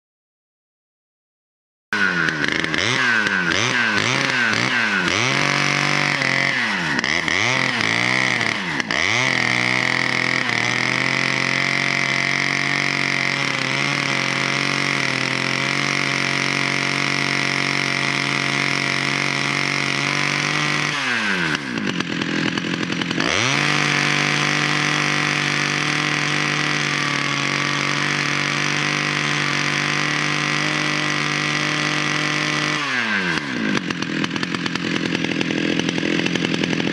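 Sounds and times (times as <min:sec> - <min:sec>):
tree stump dragging on ground: 0:02.0 - 0:15.8, 0:19.8 - 0:36.9
chainsaw engine revving: 0:02.0 - 0:36.9.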